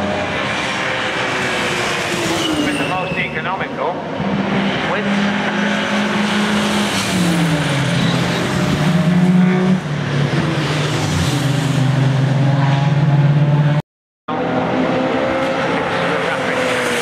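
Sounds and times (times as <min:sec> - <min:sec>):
race cars driving past: 0:00.0 - 0:17.0.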